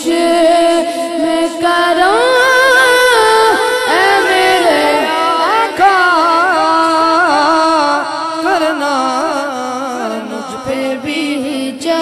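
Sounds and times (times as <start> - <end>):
person singing devotional song: 0.0 - 12.0.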